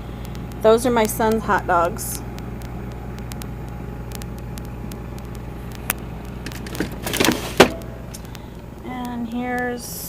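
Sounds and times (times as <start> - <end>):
refrigerator hum: 0.0 - 10.0.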